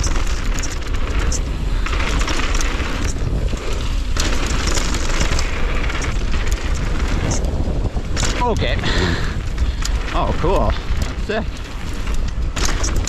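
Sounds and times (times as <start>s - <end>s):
bike rattling and clicking: 0.0s - 13.0s
tyres rolling over loose dirt: 0.0s - 13.0s
wind buffeting microphone: 0.0s - 13.0s.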